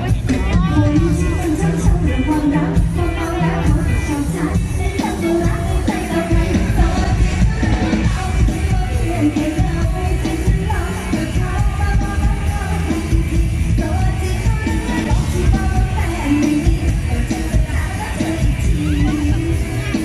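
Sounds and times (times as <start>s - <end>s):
amplified live band playing: 0.0s - 20.0s
woman singing: 0.0s - 20.0s.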